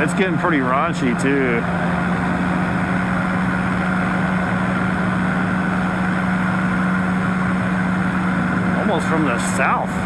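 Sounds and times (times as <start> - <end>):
propeller engine drone: 0.0 - 10.0.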